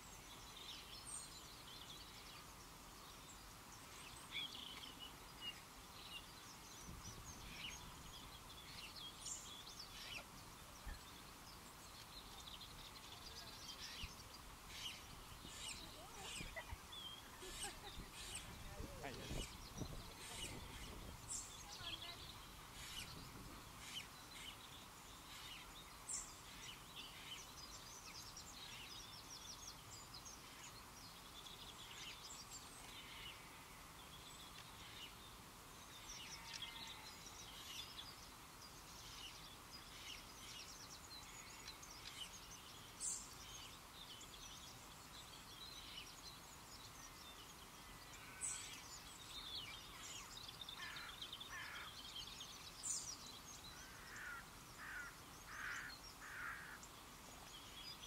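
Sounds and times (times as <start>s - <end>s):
small birds chirping: 0.0s - 58.0s
steady low hiss: 0.0s - 58.0s.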